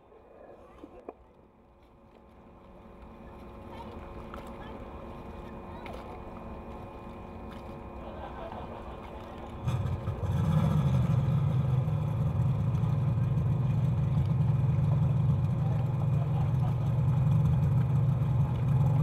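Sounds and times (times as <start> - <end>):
outboard motor running: 2.1 - 19.0.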